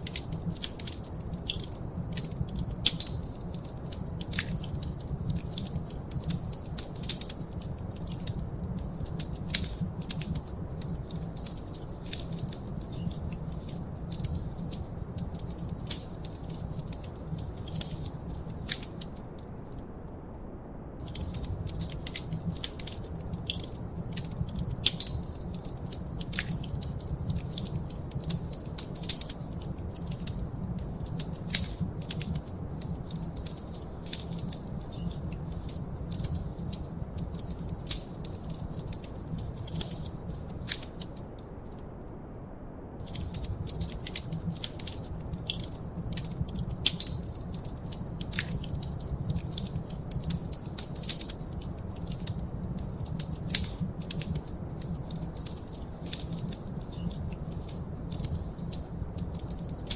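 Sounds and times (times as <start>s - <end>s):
wood fire crackling and popping: 0.0s - 19.8s, 21.0s - 42.2s, 43.0s - 59.9s.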